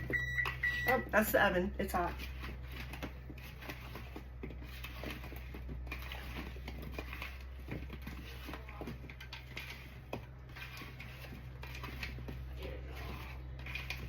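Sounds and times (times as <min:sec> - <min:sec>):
spatula clicking and scraping in bowl: 0:00.0 - 0:14.0.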